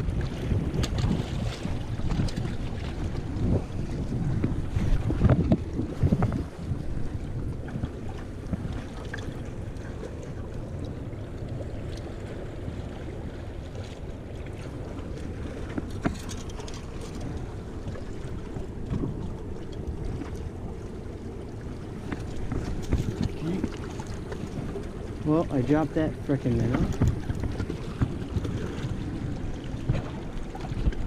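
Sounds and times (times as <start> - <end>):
rushing water: 0.0 - 31.0
wind on microphone: 0.0 - 31.0.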